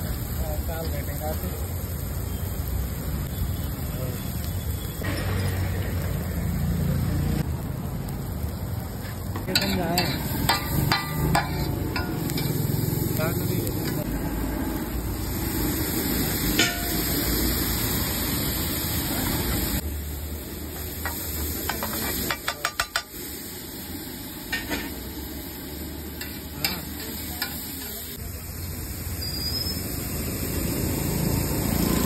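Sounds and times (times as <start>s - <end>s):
vegetables sizzling on a griddle: 0.0s - 32.0s.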